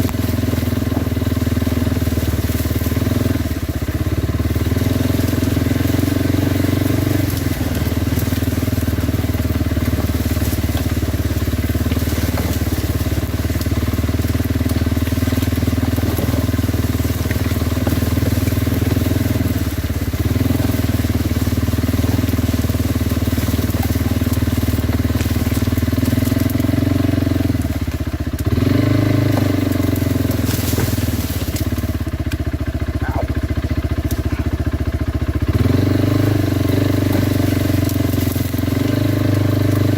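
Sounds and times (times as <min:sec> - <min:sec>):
atv engine running under throttle: 0:00.0 - 0:39.9.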